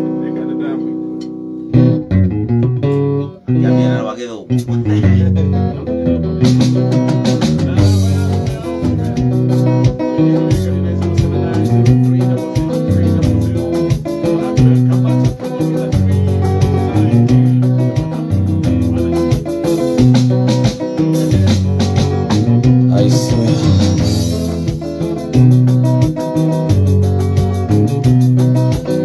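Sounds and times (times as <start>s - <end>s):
electric guitar: 0.0s - 29.0s
bass line: 1.7s - 29.0s
drum kit hi-hat beat: 4.5s - 29.0s.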